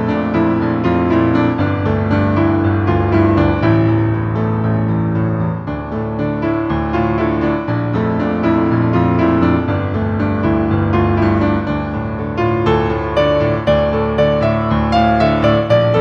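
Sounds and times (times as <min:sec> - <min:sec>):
solo piano piece: 0:00.0 - 0:16.0.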